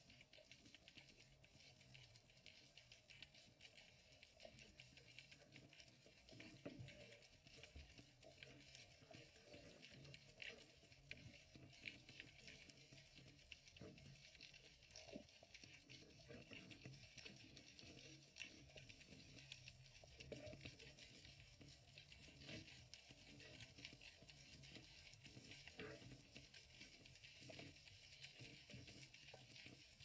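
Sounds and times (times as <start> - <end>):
soft underwater clicks and crackles: 0.0 - 30.0.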